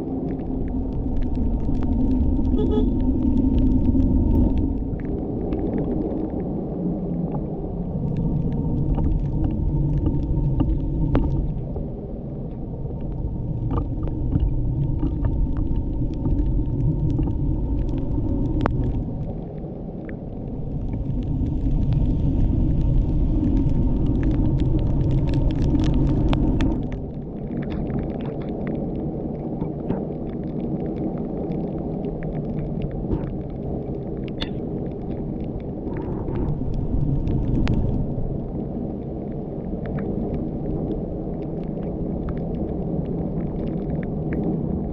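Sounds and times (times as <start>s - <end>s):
engine and tyre rumble: 0.0s - 44.9s.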